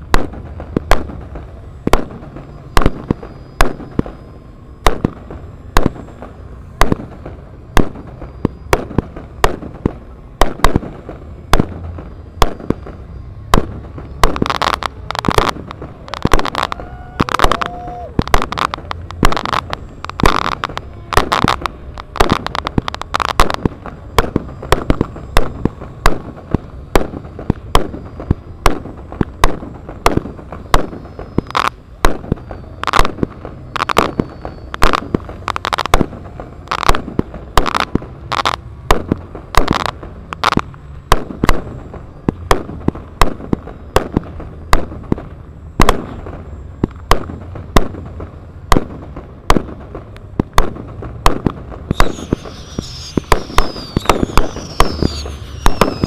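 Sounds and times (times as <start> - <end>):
pyrotechnic bangs: 0.0 - 56.0.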